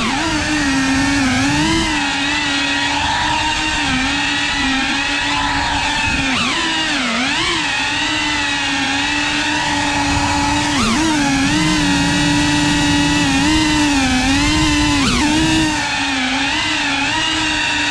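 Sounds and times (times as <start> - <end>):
drone motors whining: 0.0 - 17.9.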